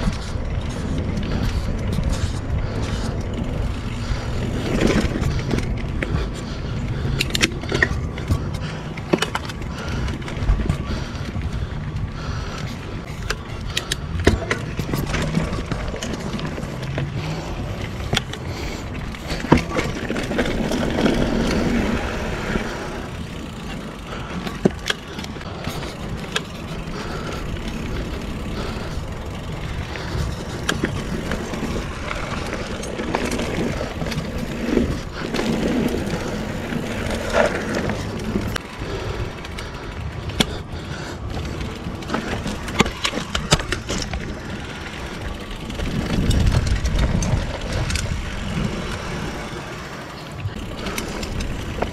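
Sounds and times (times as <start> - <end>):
bike rattling clicks and knocks: 0.0 - 51.9
bike tyre rumble: 0.0 - 51.9
wind noise on microphone: 0.0 - 51.9.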